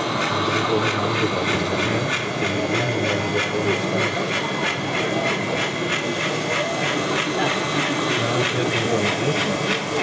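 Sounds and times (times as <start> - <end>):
model steam train chuffing: 0.0 - 10.0.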